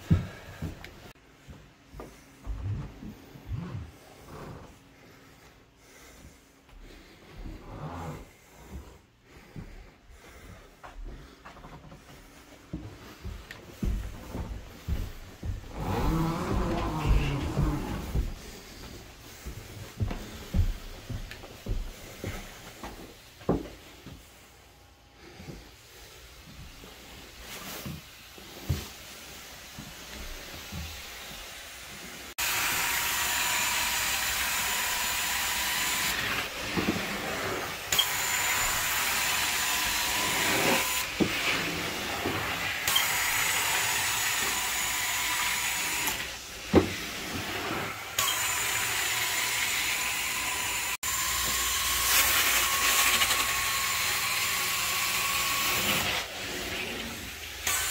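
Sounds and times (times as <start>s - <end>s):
carpet cleaner suction hiss and whine: 0.0s - 57.9s.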